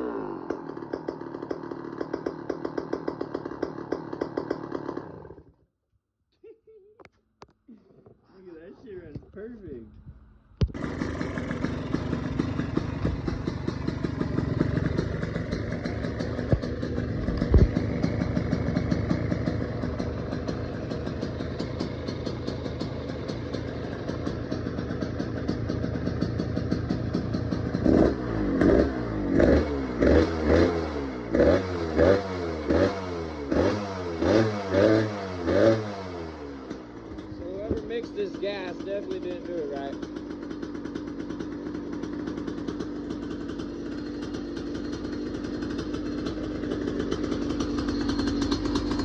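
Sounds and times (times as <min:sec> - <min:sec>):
two-stroke engine revving: 0:00.0 - 0:05.6, 0:10.6 - 0:49.0.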